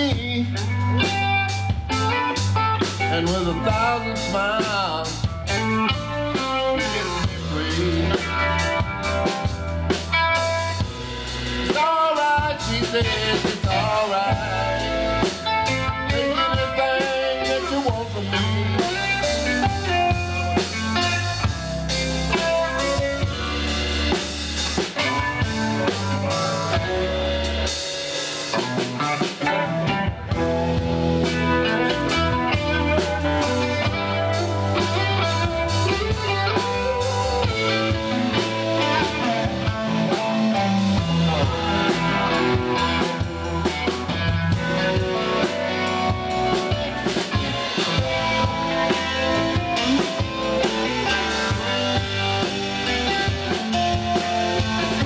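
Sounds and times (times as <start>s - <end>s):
drum kit: 0.0s - 55.0s
electric bass: 0.0s - 55.0s
electric guitars with bent notes: 0.0s - 55.0s.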